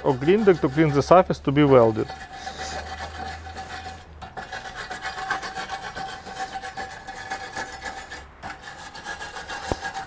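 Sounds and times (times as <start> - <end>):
wire brush scraping steel: 0.0 - 10.0.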